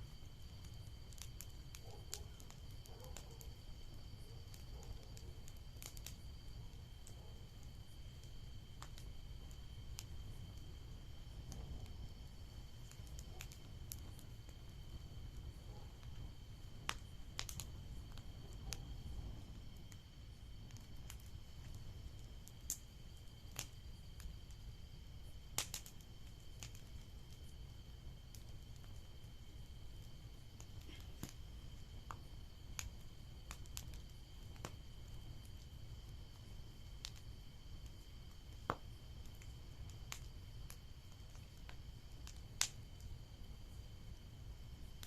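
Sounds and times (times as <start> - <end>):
bonfire crackling and popping: 0.0 - 45.0
low rumble of fire: 0.0 - 45.0.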